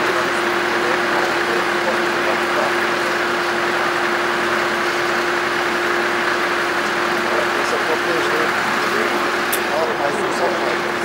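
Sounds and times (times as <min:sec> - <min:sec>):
tractor engine running steadily: 0:00.0 - 0:11.0.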